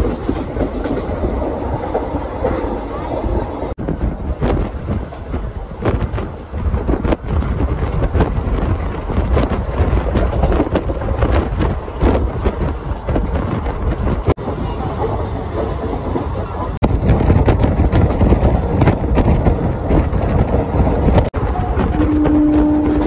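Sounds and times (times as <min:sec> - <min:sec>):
train wheels rumbling on rails: 0:00.0 - 0:23.0
wind: 0:00.0 - 0:23.0.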